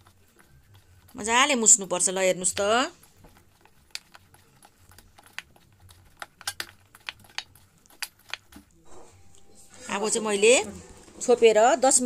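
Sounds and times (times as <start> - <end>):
dough kneaded in metal bowl: 0.0 - 12.0.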